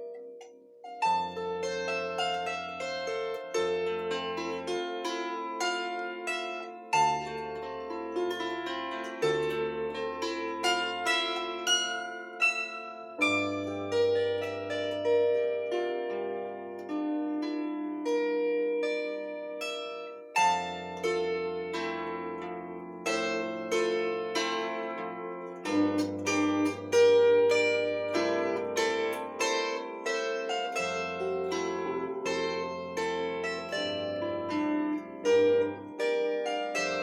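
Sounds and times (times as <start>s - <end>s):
plucked bandura playing: 0.0s - 37.0s.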